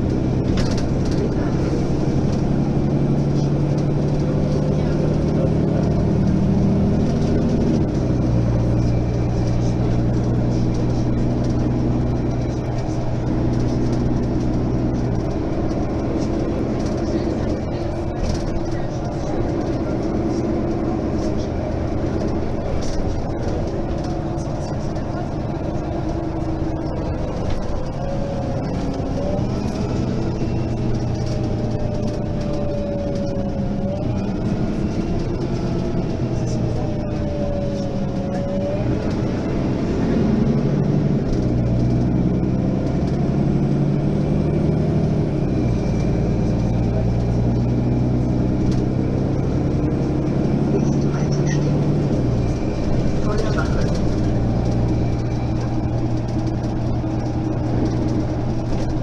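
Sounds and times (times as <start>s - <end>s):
bus diesel engine pulling away: 0.0s - 59.0s.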